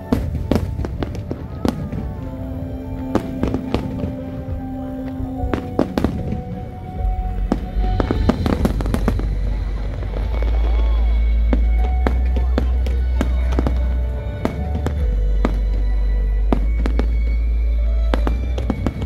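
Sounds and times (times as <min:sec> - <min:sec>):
fireworks bangs: 0:00.0 - 0:17.5, 0:18.1 - 0:19.0
low rumble: 0:00.0 - 0:19.0.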